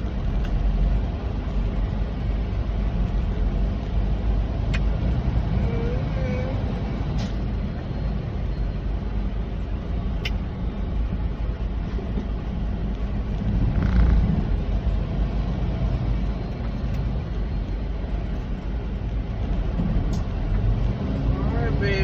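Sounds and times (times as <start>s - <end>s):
diesel engine drone: 0.0s - 22.0s
road and tyre noise: 0.0s - 22.0s.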